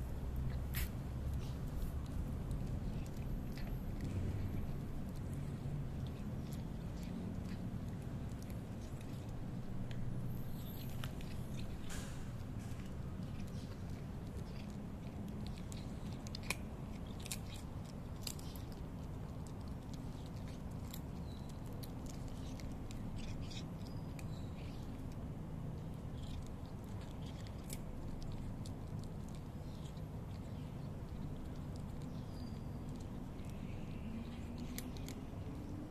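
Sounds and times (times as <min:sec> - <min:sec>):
cat chewing dry kibble: 0:00.0 - 0:35.9
low background rumble: 0:00.0 - 0:35.9.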